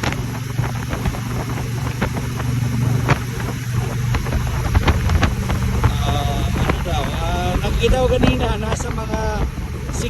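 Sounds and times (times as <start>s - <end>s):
motorcycle engine cruising: 0.0s - 10.0s
sharp thumps: 0.0s - 10.0s
wind buffeting microphone: 0.0s - 10.0s.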